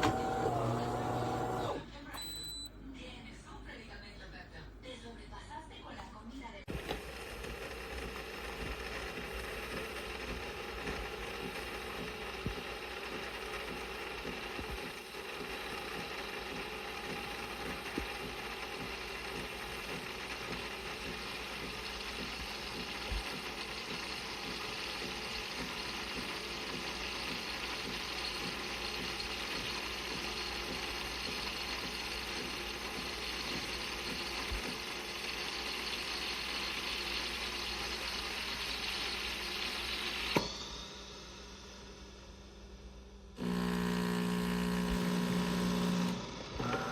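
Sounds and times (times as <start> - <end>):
espresso machine whirring: 0.0 - 2.6, 6.7 - 40.4, 43.4 - 46.9.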